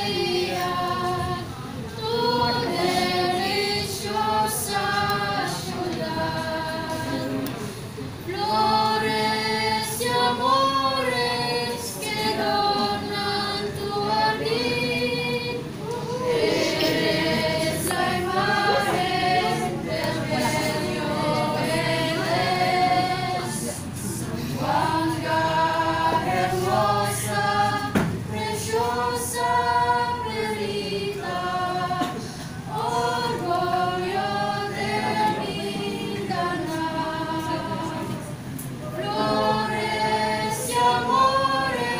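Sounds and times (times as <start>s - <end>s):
group singing a cappella: 0.0s - 41.9s.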